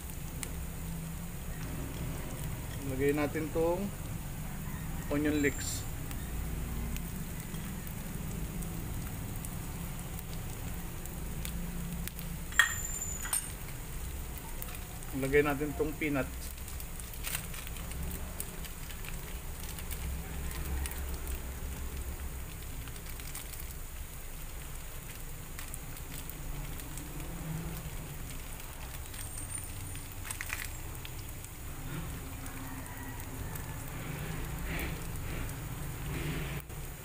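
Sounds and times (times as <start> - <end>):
crackles and pops of frying: 0.0 - 37.0
onions and meat frying in oil: 0.0 - 37.0.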